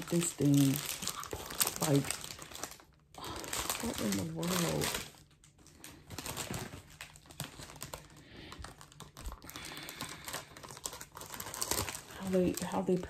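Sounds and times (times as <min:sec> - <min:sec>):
plastic crinkling: 0:00.0 - 0:13.0.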